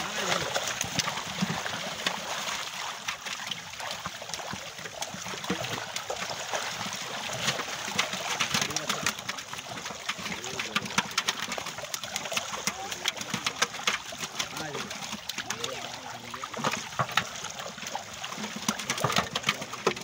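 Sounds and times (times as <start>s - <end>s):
fish thrashing and splashing: 0.0s - 20.0s.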